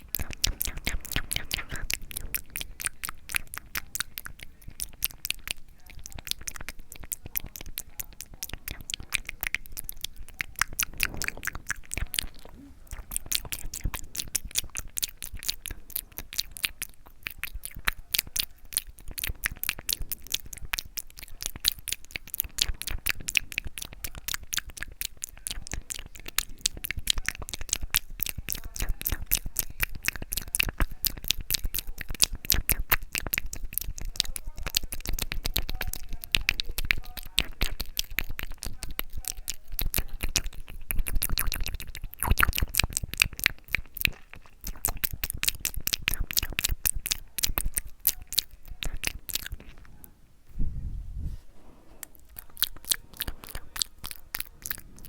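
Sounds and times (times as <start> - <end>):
wet tongue and lip clicks: 0.0 - 50.1, 52.0 - 55.0.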